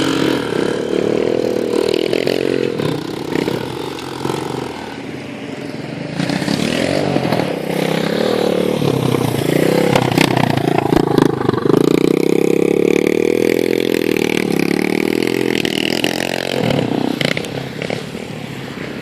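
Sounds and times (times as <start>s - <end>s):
off-road vehicle engine running hard: 0.0s - 19.0s.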